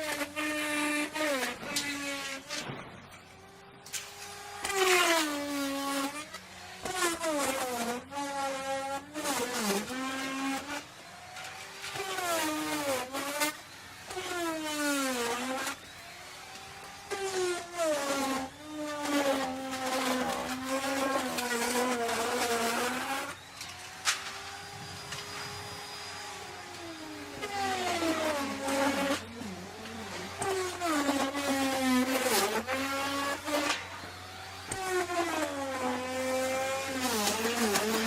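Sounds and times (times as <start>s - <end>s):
wood router cutting wood: 0.0s - 38.0s.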